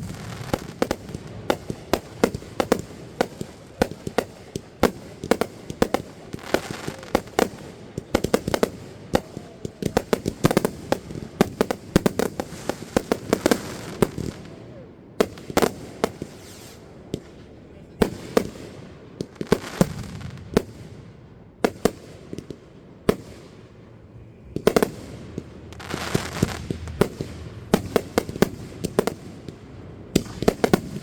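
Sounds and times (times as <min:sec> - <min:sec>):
fireworks bangs: 0:00.0 - 0:14.6, 0:15.2 - 0:21.0, 0:21.6 - 0:31.0.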